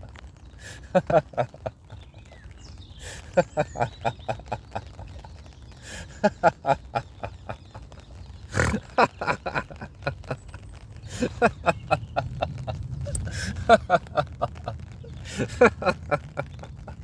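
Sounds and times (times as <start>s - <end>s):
man laughing heartily: 0.6s - 2.3s, 3.0s - 17.0s.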